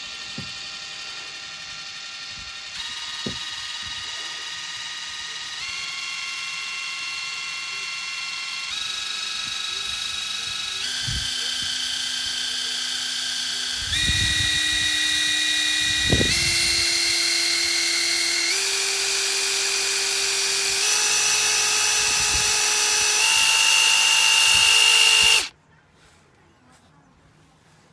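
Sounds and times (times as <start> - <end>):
impact driver motor running: 0.0 - 25.5.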